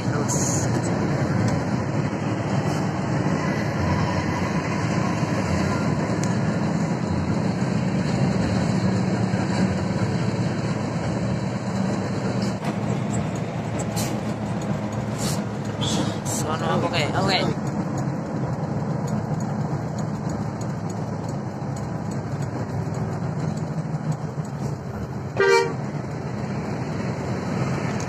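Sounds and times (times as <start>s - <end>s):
bus engine and road drone: 0.0s - 28.0s.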